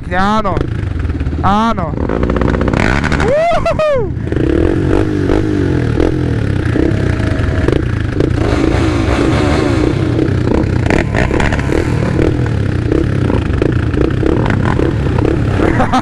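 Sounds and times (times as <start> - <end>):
quad engines revving: 0.3 - 16.0.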